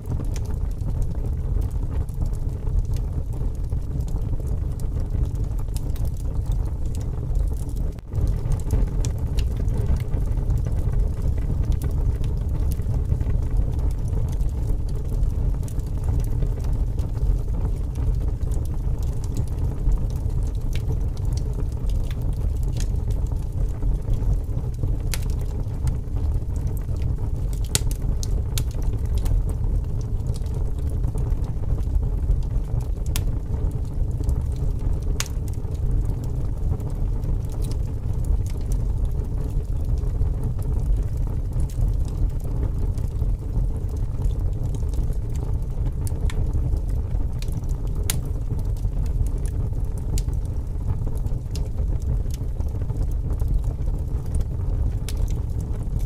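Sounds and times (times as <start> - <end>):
wind rumbling: 0.0 - 56.0
wood fire crackling: 0.0 - 56.0.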